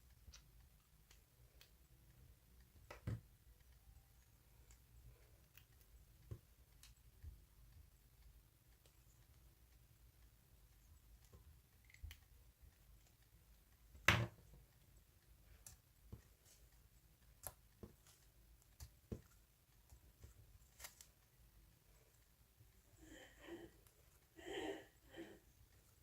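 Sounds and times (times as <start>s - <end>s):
faint clicks and taps: 0.0s - 24.4s.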